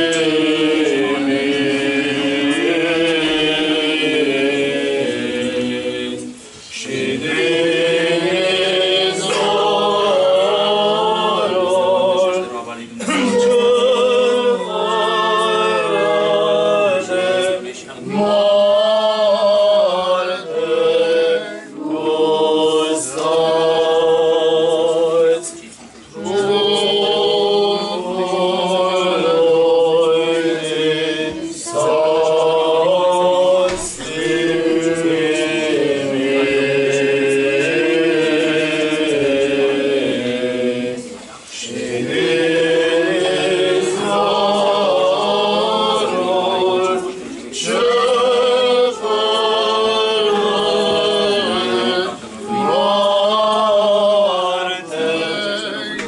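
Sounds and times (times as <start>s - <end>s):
choir singing liturgical chant: 0.0s - 56.0s.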